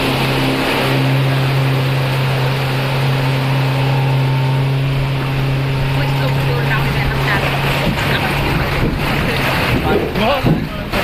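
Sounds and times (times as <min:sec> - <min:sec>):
outboard motor running: 0:00.0 - 0:11.0
water rushing hiss: 0:00.0 - 0:11.0.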